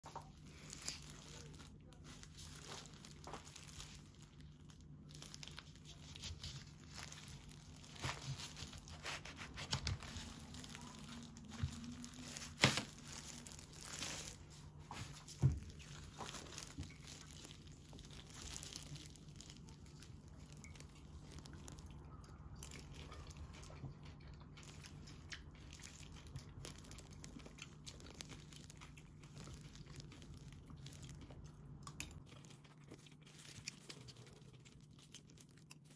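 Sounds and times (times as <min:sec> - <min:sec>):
faint low hum: 0:00.0 - 0:35.9
plastic gloves crinkling: 0:00.0 - 0:35.9.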